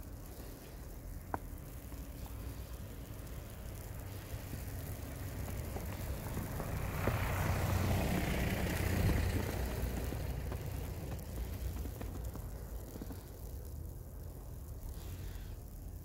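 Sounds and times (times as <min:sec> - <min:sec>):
tyre hiss: 0:00.0 - 0:16.0
vehicle engine rumble passing: 0:00.0 - 0:16.0.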